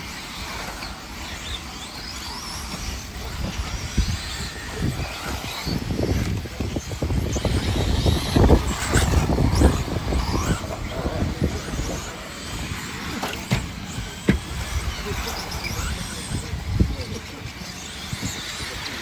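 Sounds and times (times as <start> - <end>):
rc buggy motor whine: 0.0 - 19.0.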